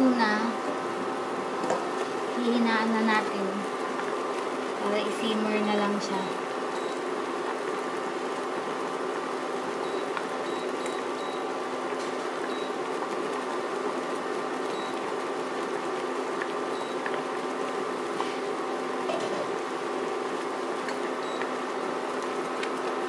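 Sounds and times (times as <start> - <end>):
liquid bubbling in wok: 0.6 - 23.0.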